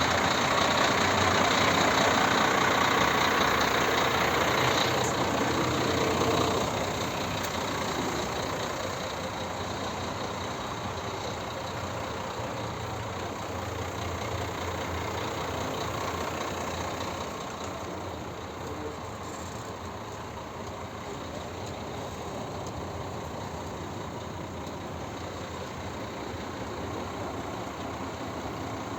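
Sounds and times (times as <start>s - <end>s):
diesel truck engine idling: 0.0s - 28.9s.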